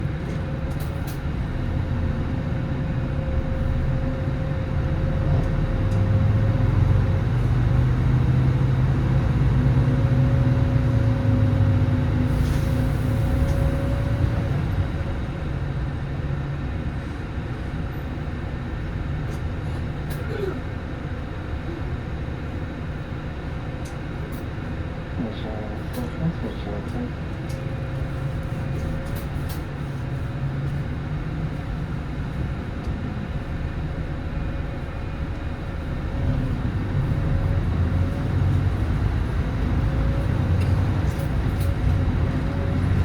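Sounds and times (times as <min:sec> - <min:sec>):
bus diesel engine droning: 0:00.0 - 0:43.0
engine whine: 0:00.0 - 0:43.0.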